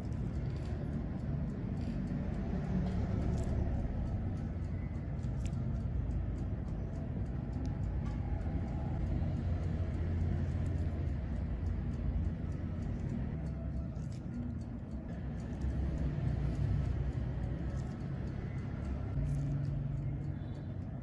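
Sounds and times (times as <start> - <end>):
faint ticks: 0.0 - 21.0
low droning background noise: 0.0 - 21.0.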